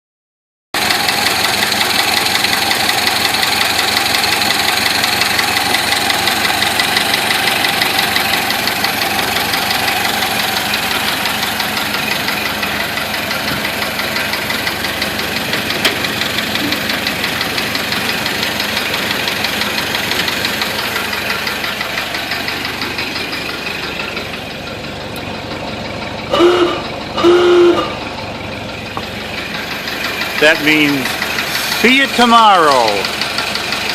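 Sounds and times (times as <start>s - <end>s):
engine running with an even beat: 0.8s - 33.9s.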